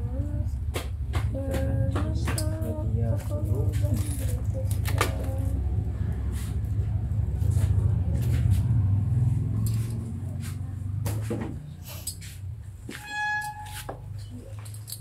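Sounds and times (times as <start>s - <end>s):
steady low hum: 0.0s - 12.9s
bedding rustling and scraping: 2.5s - 15.0s.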